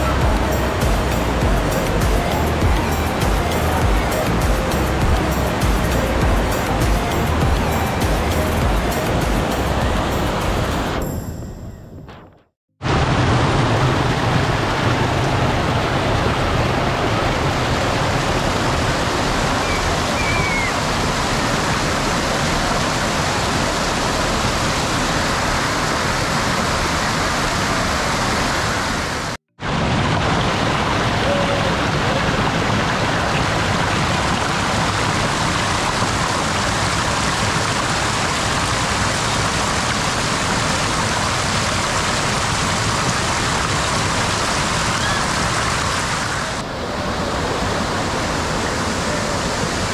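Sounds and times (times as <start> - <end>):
waterfall rushing: 0.0 - 11.0, 12.8 - 49.9.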